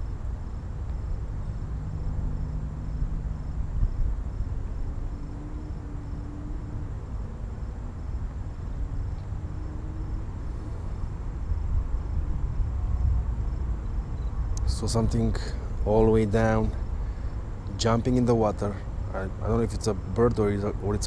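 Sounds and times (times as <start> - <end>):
faint low hum: 0.0 - 21.0
insect high chirp: 0.0 - 21.0
wind rumbling on microphone: 0.0 - 21.0.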